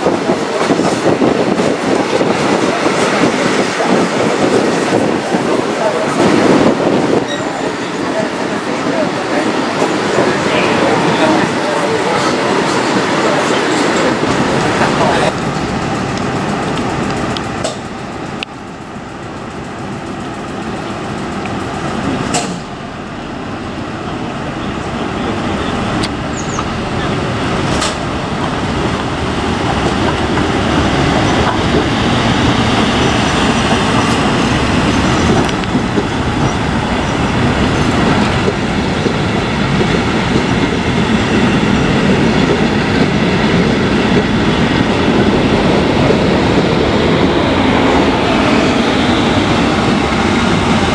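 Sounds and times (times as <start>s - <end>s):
train rolling rumble: 0.0s - 50.9s.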